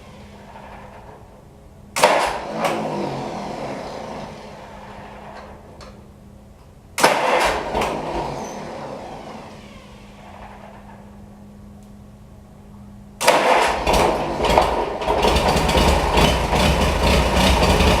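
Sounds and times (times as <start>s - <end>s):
tractor engine starting and dying: 0.0s - 6.1s, 7.0s - 11.2s, 13.2s - 18.0s.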